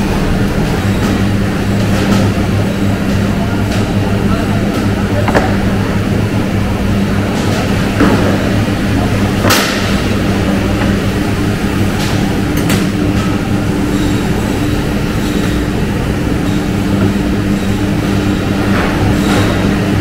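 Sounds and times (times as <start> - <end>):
factory machinery hum: 0.0 - 20.0.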